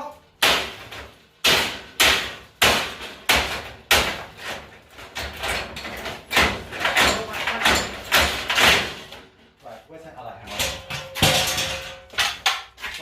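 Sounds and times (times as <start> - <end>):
hammer striking oven: 0.4 - 9.2, 10.5 - 12.7.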